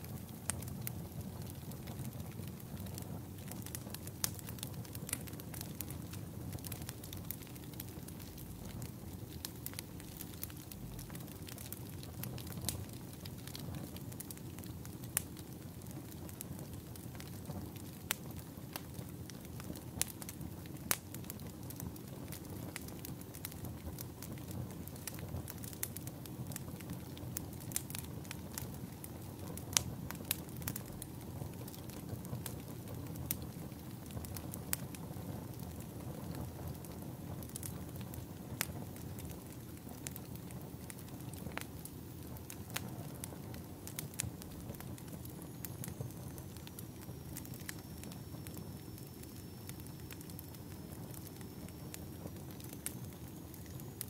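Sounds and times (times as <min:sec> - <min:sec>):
burning logs rumbling: 0:00.0 - 0:54.0
fire pops and crackles: 0:00.0 - 0:54.0.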